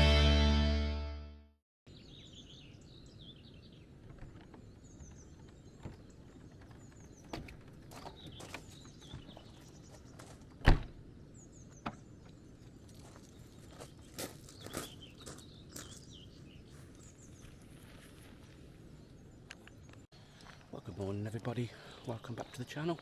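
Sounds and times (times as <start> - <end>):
small birds chirping: 1.9 - 23.0.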